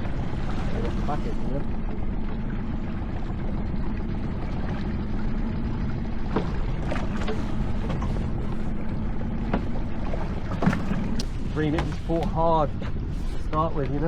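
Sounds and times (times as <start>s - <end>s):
low steady hum: 0.0s - 14.0s
water noise: 0.0s - 14.0s
wind: 0.0s - 14.0s.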